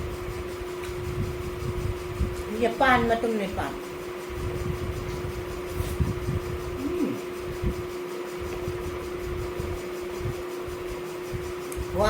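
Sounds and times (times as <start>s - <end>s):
electrical fan hum: 0.0s - 12.0s.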